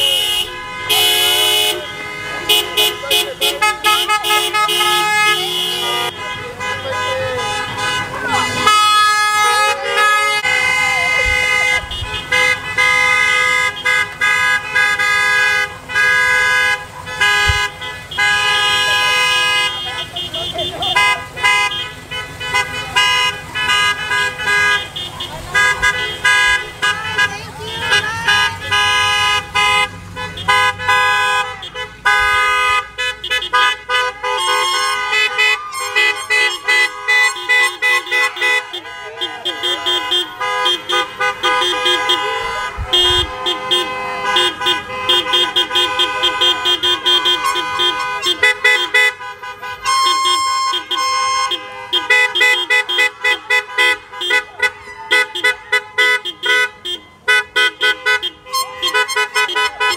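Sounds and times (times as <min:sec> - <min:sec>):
car horns honking: 0:00.0 - 0:59.9.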